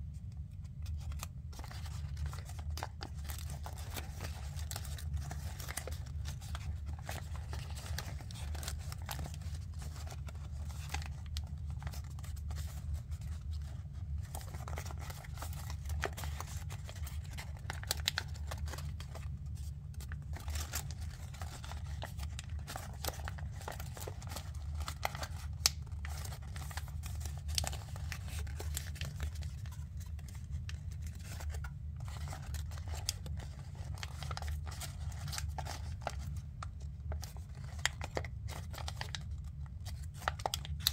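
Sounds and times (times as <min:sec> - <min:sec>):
paper crackling and rustling: 0:00.0 - 0:40.9.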